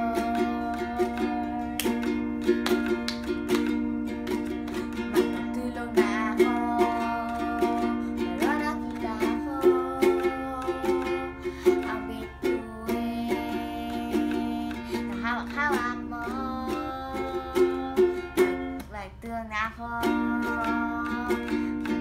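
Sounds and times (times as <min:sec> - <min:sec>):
girl singing: 0:00.0 - 0:22.0
ukulele strumming: 0:00.0 - 0:22.0.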